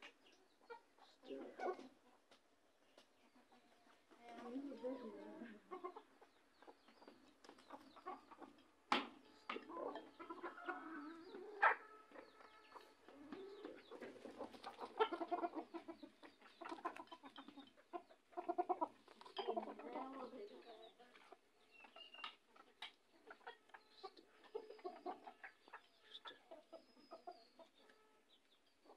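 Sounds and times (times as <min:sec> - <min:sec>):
chickens clucking: 0:00.0 - 0:28.9.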